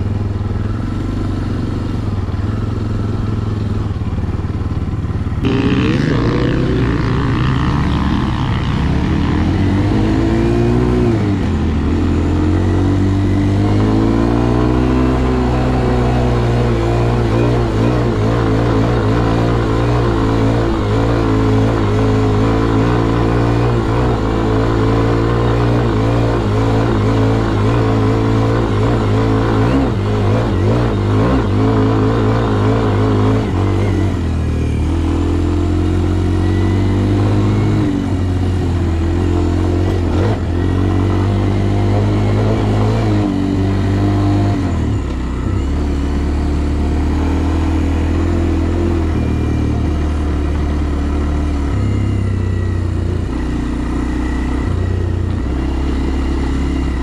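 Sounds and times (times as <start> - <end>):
dirt bike engine revving: 0.6 - 57.0.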